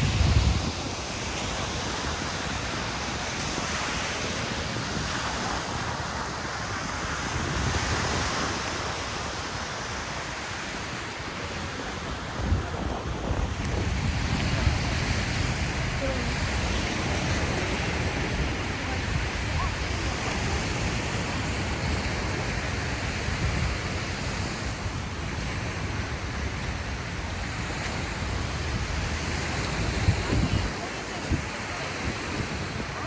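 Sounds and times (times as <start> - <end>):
waves breaking on a beach: 0.0 - 33.0.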